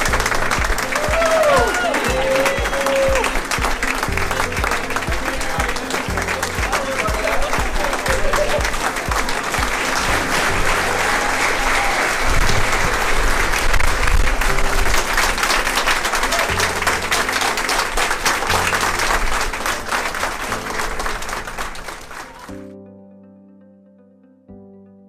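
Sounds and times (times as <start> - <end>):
crowd clapping: 0.0 - 22.7
instrumental music: 0.0 - 25.0.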